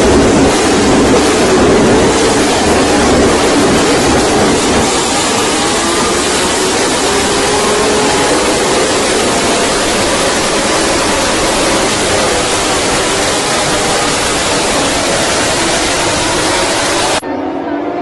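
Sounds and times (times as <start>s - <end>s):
racing motorcycles rushing past: 0.0s - 18.0s.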